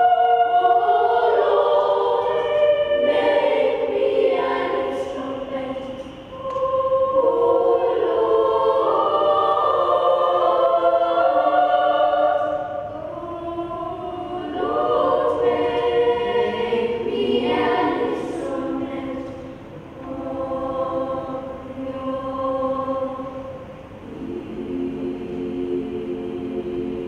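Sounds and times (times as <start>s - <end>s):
children's choir singing: 0.0s - 27.0s.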